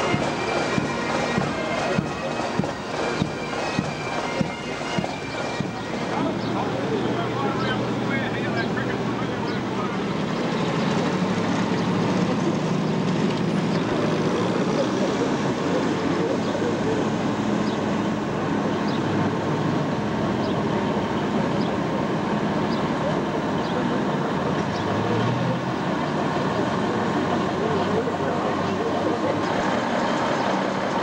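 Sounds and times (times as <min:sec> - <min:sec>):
crowd chatter: 0:00.0 - 0:31.0
military vehicle engines rumbling: 0:00.0 - 0:31.0.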